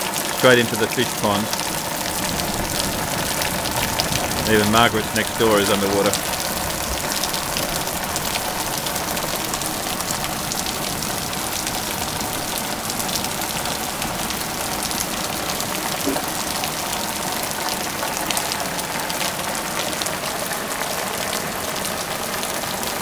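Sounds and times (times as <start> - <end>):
heavy rain on water: 0.0 - 23.0
running water: 0.0 - 23.0.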